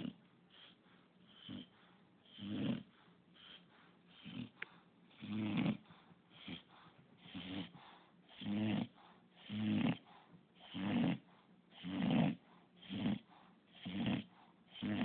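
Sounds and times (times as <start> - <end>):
dog snoring: 0.0 - 15.0.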